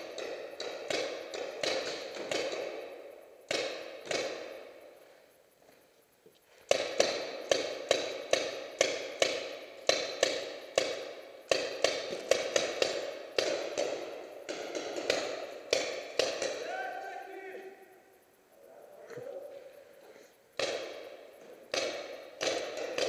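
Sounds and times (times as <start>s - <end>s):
paintball marker shots echoing: 0.0s - 5.0s, 6.6s - 18.2s, 19.2s - 23.0s.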